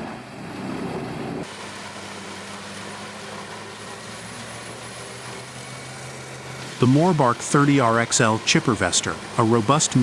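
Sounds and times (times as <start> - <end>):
heavy diesel machinery running: 0.0 - 10.0.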